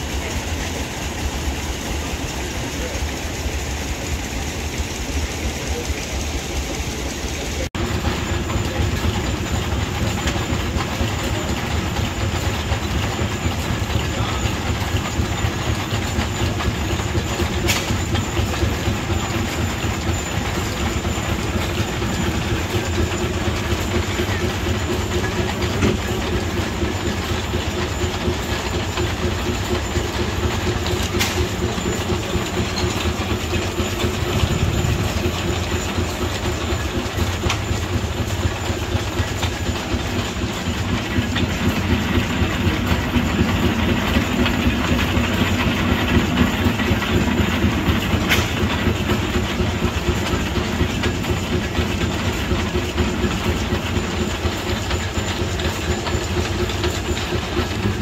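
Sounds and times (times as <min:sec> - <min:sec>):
belt-driven lathe clattering: 0:00.0 - 0:58.0.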